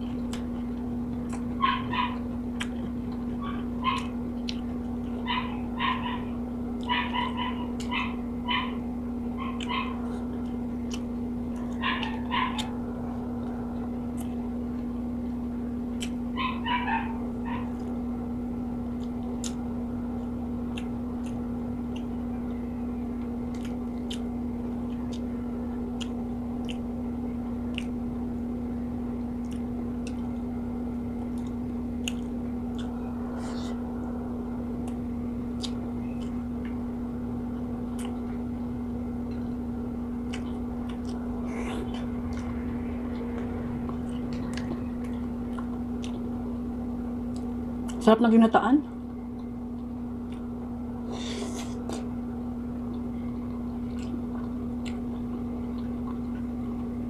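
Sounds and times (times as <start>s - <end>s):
soft chewing: 0.0s - 48.1s, 48.8s - 57.0s
low hum: 0.0s - 57.0s.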